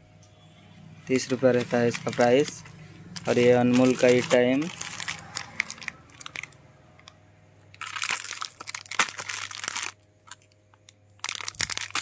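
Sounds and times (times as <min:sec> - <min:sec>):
plastic packet crinkling: 0:01.2 - 0:12.0.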